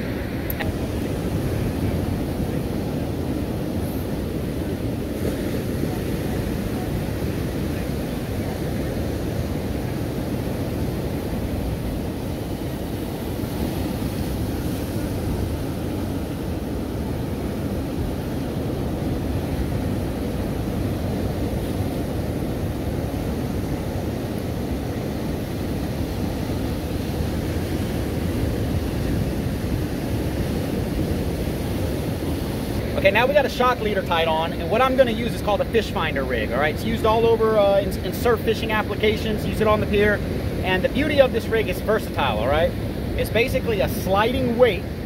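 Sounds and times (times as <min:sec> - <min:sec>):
ocean surf: 0:00.0 - 0:45.0.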